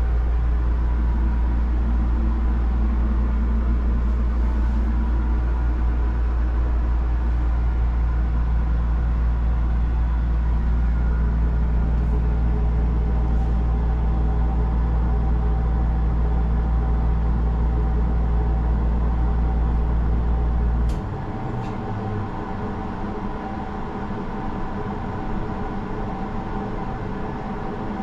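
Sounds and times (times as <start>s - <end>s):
low mechanical hum and rumble: 0.0s - 28.0s.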